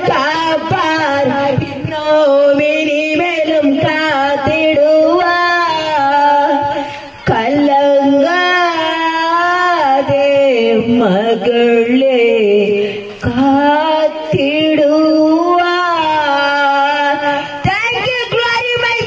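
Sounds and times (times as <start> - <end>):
woman singing into a microphone: 0.0 - 19.0.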